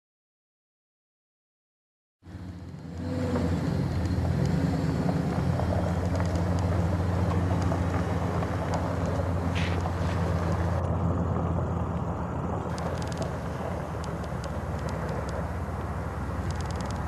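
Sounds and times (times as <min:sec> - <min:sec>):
pickup truck engine running: 0:02.3 - 0:17.0.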